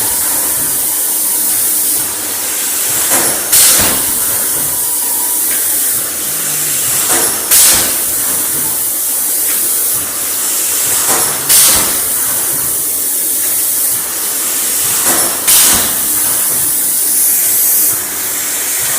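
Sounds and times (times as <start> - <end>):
machine running with steady hiss: 0.0 - 18.9.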